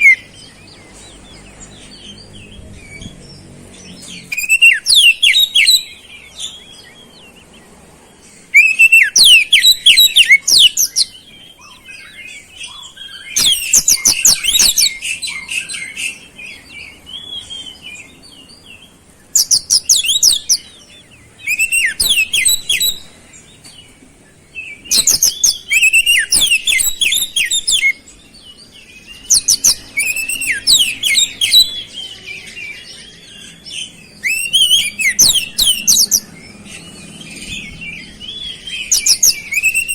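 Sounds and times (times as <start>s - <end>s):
bird singing and chattering: 0.0s - 39.9s.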